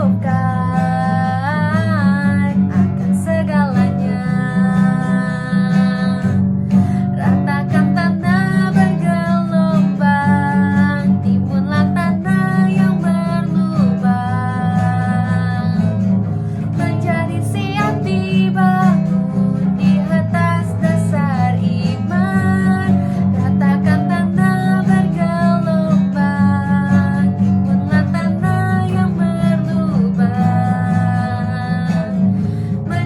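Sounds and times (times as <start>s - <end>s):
steady bass: 0.0s - 33.0s
strummed acoustic guitar: 0.0s - 33.0s.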